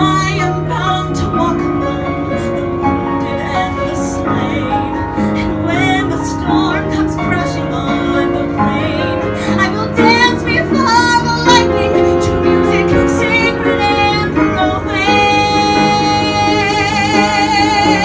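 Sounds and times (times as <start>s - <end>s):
piano accompaniment: 0.0s - 18.0s
woman singing a ballad: 0.0s - 18.0s.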